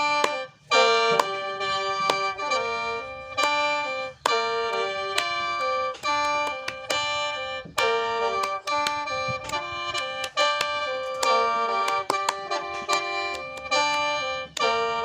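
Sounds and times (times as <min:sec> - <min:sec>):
mouth organ melody over drone: 0:00.0 - 0:15.0.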